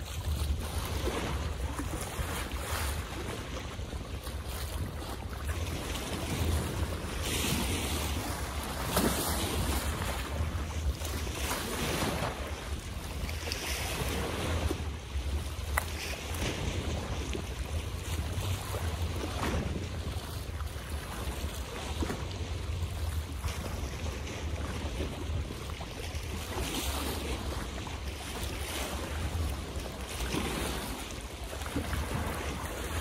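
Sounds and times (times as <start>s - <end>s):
water splashing in small waves: 0.0s - 33.0s
wind rumble on microphone: 0.0s - 33.0s.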